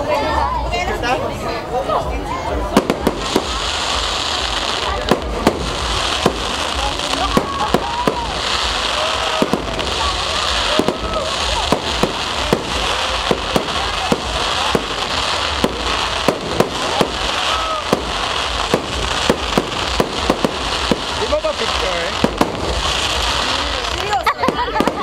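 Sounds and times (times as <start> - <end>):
fireworks bangs and pops: 2.6 - 25.0.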